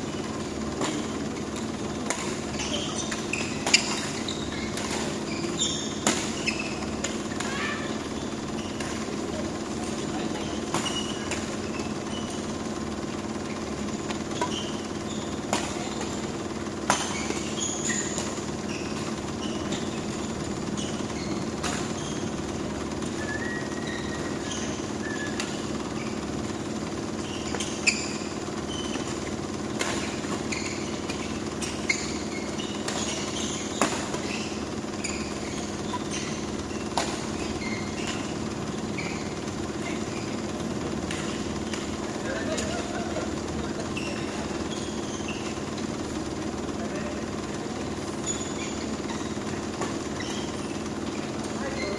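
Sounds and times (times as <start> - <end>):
shoes squeaking on court floor: 0.0 - 51.9
steady hum: 0.0 - 51.9
rackets striking shuttlecock: 0.2 - 46.6.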